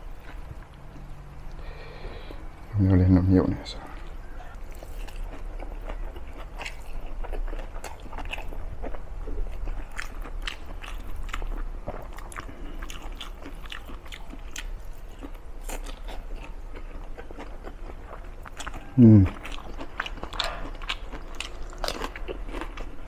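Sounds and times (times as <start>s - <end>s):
man chewing with mouth clicks: 3.8s - 23.0s.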